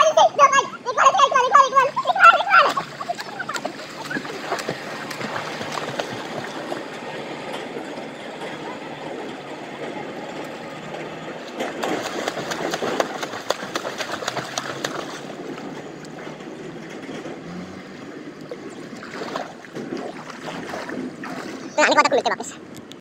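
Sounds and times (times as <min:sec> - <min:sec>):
swimmers splashing: 0:00.0 - 0:22.6
water lapping: 0:00.0 - 0:22.6.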